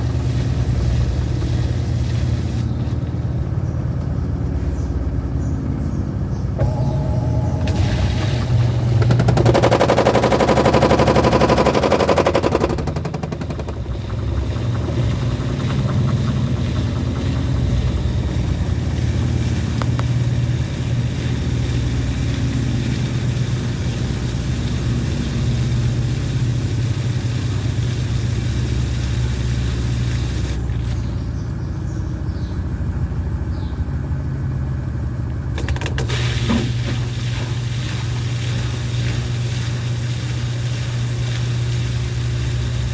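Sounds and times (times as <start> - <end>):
washing machine spinning and rattling: 0.0 - 42.9.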